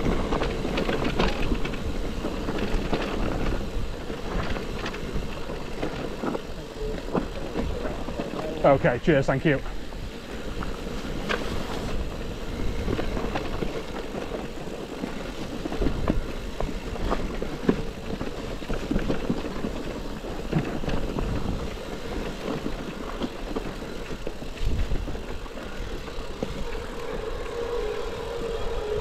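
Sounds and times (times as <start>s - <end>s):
wind and tyres on stones: 0.0s - 29.0s.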